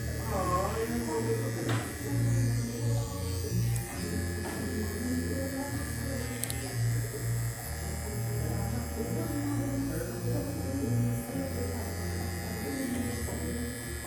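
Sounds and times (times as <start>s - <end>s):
hair clipper buzzing: 0.0s - 14.0s.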